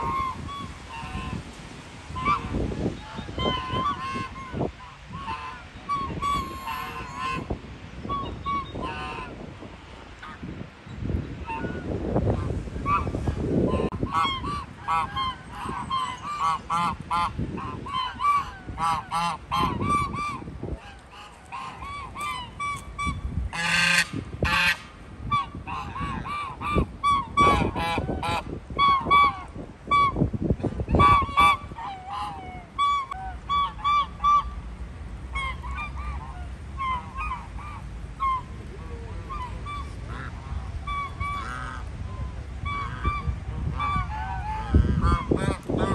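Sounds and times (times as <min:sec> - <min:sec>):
geese honking: 0:00.0 - 0:01.4, 0:02.1 - 0:09.4, 0:11.4 - 0:30.2, 0:30.9 - 0:34.6, 0:35.3 - 0:45.9.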